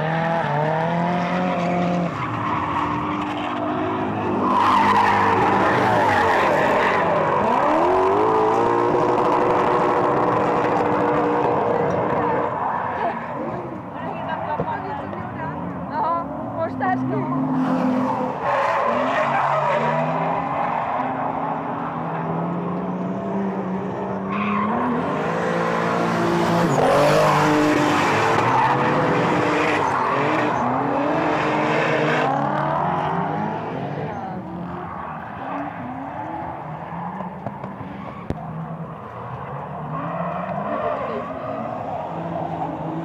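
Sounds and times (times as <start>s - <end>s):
car engines revving: 0.0s - 43.0s
tyres skidding and squealing: 0.0s - 43.0s.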